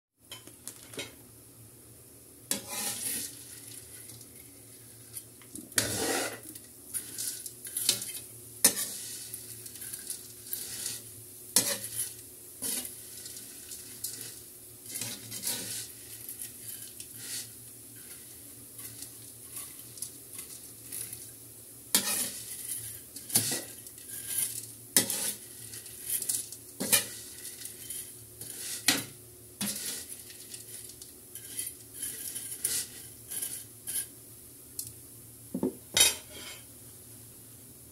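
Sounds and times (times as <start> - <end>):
faint frying sizzle: 0.2 - 37.9
utensil scraping steel wok: 2.5 - 34.2, 36.0 - 36.7.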